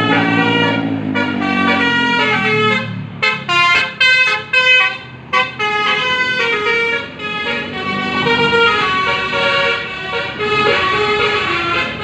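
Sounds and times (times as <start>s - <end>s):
bus multi-tone horn tune: 0.0s - 12.0s
low vehicle drone: 0.0s - 12.0s.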